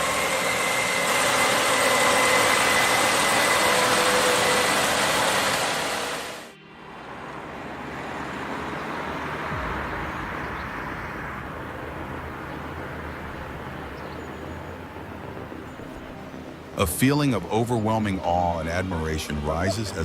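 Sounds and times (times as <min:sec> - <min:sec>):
road and traffic noise: 0:00.0 - 0:20.0.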